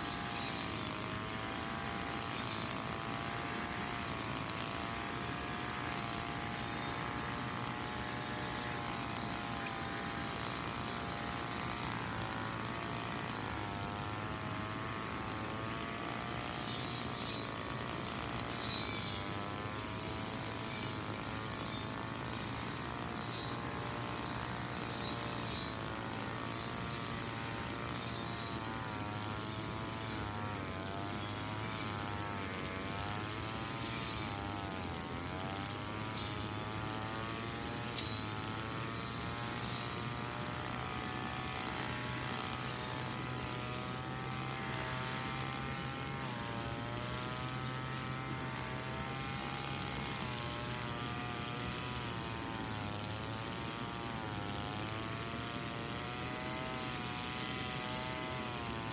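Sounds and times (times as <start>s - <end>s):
brush cutter engine running: 0.0s - 58.9s.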